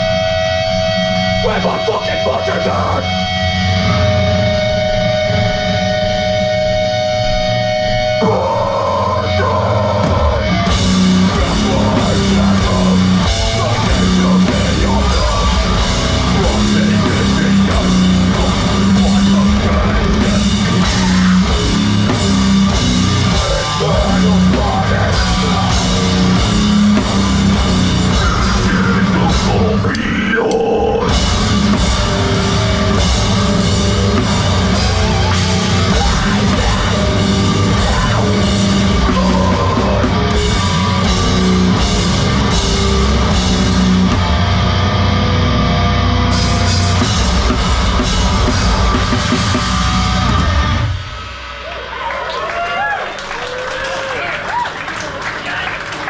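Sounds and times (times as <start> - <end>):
distorted guitar chord ringing: 0.0 - 30.0, 31.0 - 51.6
heavy rock band playing: 0.0 - 56.0.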